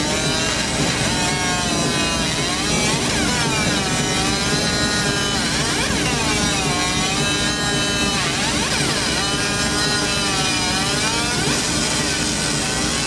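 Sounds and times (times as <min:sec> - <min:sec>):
laser scanner whine: 0:00.0 - 0:13.0.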